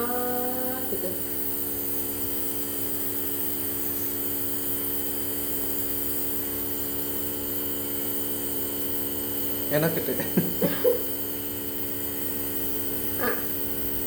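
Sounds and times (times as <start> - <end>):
nebulizer electric hum: 0.0 - 14.0.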